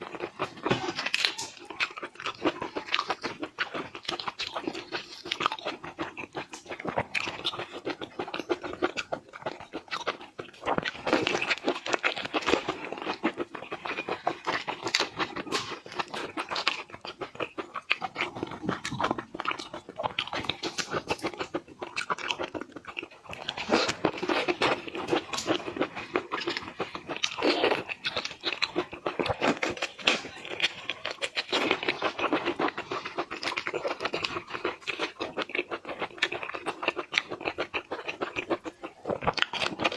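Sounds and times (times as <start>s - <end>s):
crunching and chewing shrimp: 0.0s - 39.9s.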